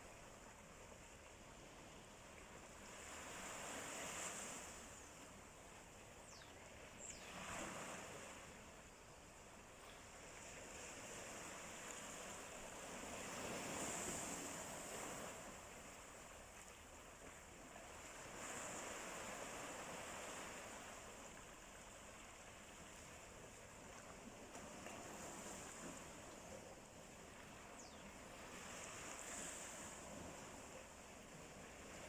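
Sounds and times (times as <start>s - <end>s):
sea waves washing on shore: 0.0s - 32.0s.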